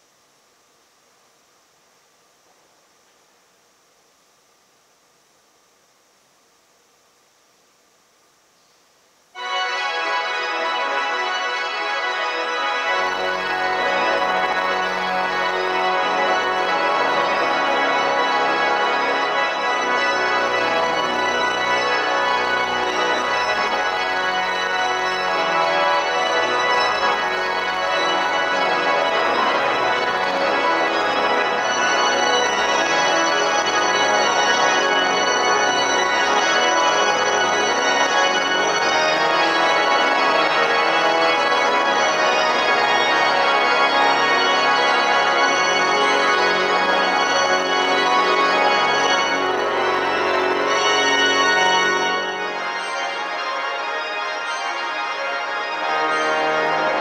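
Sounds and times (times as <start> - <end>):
pipe organ chords: 9.4 - 57.0.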